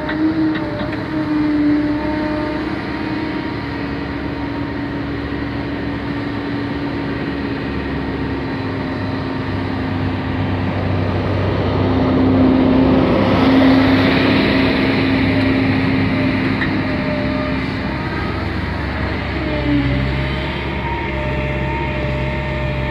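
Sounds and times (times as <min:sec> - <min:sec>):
diesel excavator engine running: 0:00.0 - 0:22.9.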